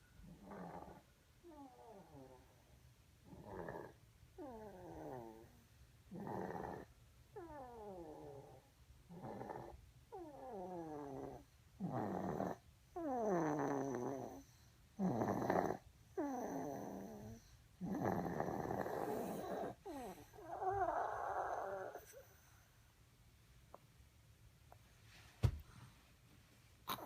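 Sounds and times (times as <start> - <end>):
pet snoring: 0.2 - 2.6, 3.2 - 22.6.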